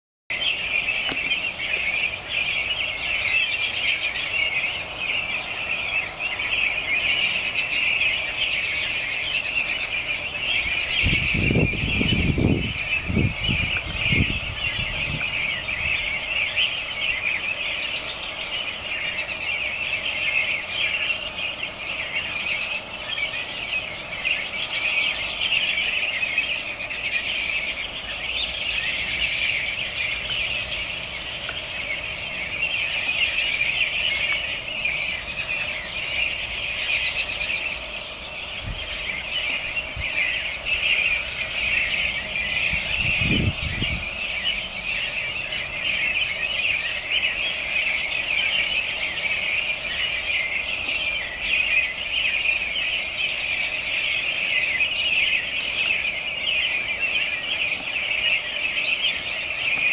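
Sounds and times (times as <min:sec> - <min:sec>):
birds chattering chorus: 0:00.3 - 0:59.9.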